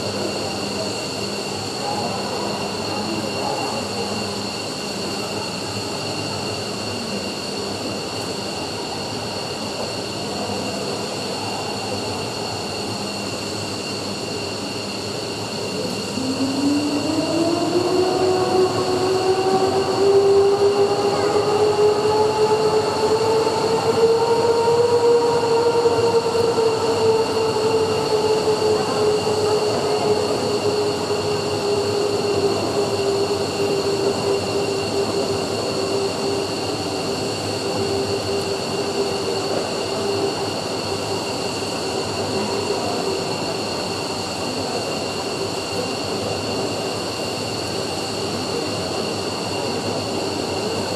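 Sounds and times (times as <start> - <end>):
jet engines whining: 0.0 - 50.9.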